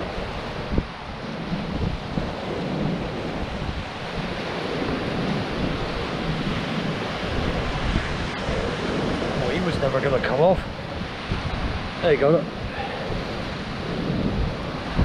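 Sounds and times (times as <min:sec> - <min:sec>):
surf on pebble shore: 0:00.0 - 0:15.0
wind buffeting microphone: 0:00.0 - 0:15.0.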